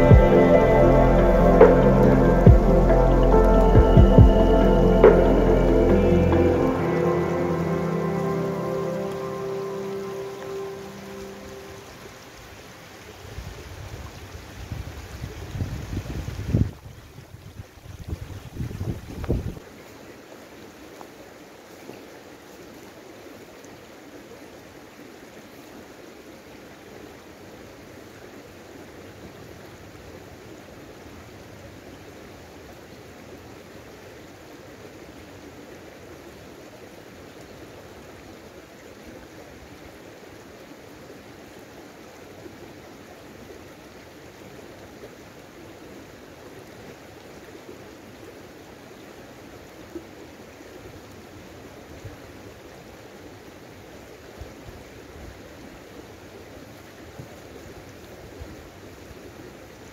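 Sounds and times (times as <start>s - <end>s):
stream running over stones: 0.0s - 59.9s.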